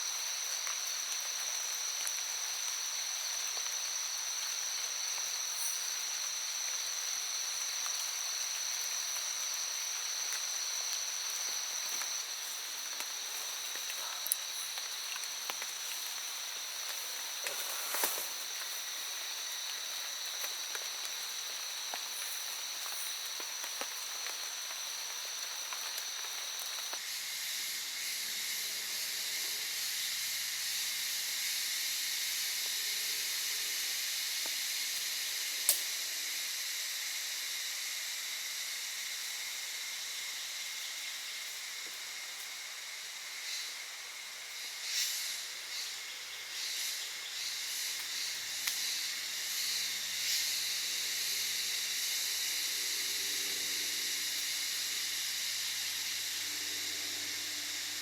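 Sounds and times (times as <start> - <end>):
insects droning: 0.0 - 58.0
rain hissing in forest: 0.0 - 58.0.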